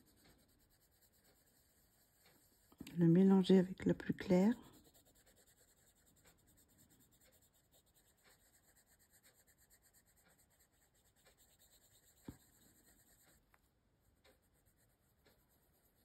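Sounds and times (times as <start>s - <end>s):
pencil scratching on paper: 0.0s - 16.0s.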